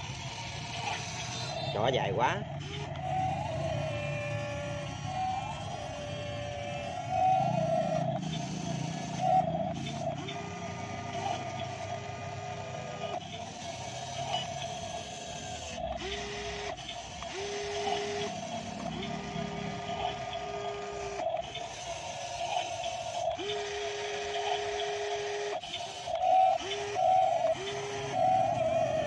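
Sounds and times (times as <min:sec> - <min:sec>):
model excavator motors whining: 0:00.0 - 0:29.0.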